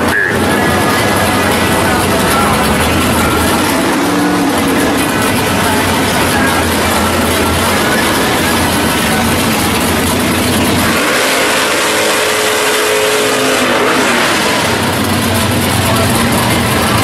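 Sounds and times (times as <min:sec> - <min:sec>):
drag car engine revving and idling: 0:00.0 - 0:17.0.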